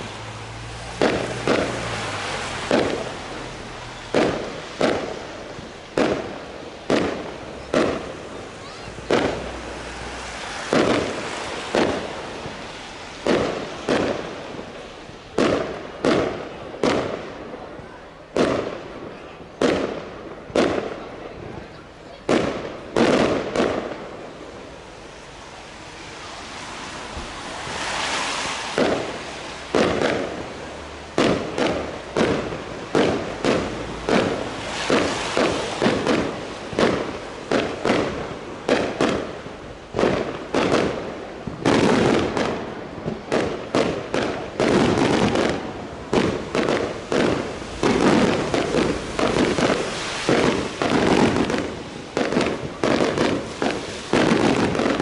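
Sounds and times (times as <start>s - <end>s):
firework bangs: 0.0s - 55.0s
firework hiss: 0.0s - 55.0s.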